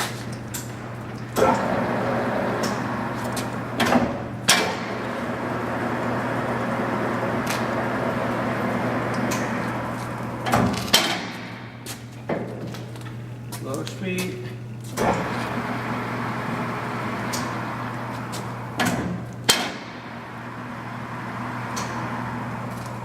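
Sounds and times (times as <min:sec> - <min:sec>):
metal lathe running: 0:00.0 - 0:23.0.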